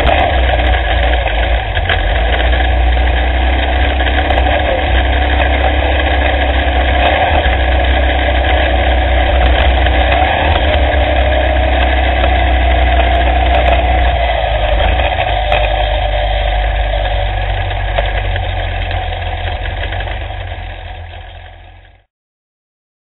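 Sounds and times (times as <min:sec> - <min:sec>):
off-road vehicle engine drone: 0:00.0 - 0:22.1.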